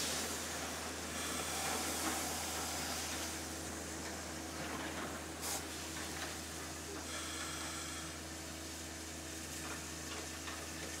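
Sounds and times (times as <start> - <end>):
steam train hissing: 0.0 - 9.0.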